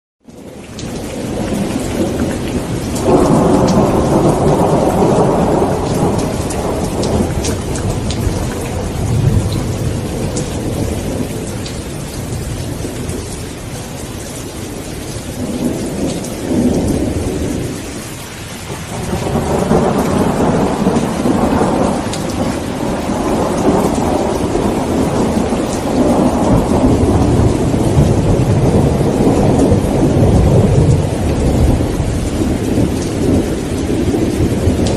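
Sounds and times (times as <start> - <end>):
heavy rain: 0.2 - 34.9
rolling thunder: 0.8 - 34.9.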